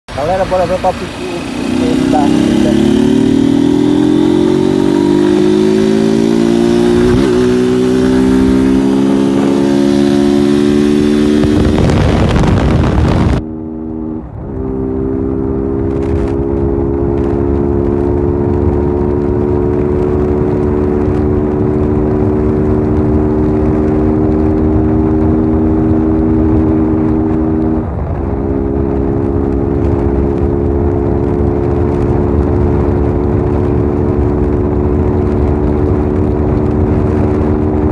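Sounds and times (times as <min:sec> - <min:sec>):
motorcycle engine accelerating: 0:00.1 - 0:37.9
wind on microphone: 0:00.2 - 0:37.9.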